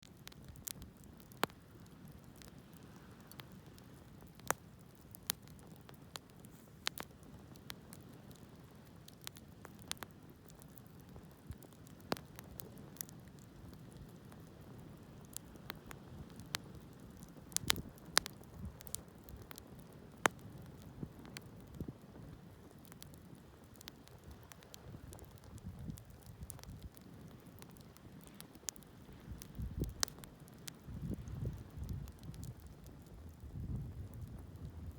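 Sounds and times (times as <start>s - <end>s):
wood crackling and popping: 0.0s - 34.9s.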